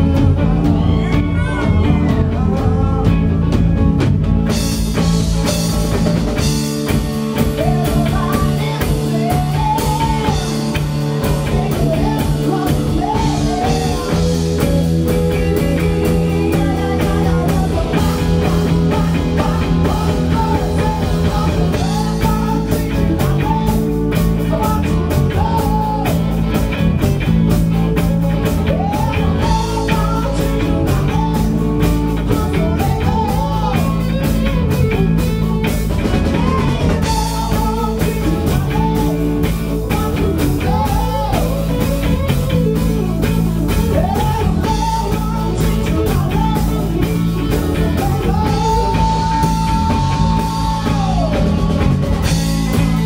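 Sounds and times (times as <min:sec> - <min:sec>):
woman singing lead: 0:00.0 - 0:03.9, 0:04.5 - 0:53.0
drum kit: 0:00.0 - 0:53.0
electric bass: 0:00.0 - 0:53.0
electric guitars: 0:00.0 - 0:53.0.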